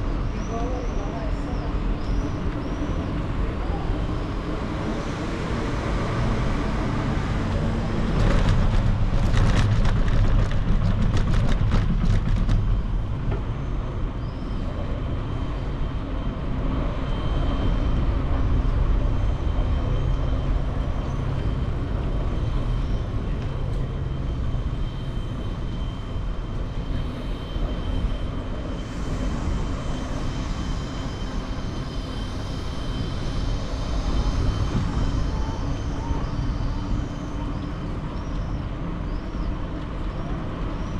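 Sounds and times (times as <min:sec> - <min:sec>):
bicycle rolling rumble: 0:00.0 - 0:40.9.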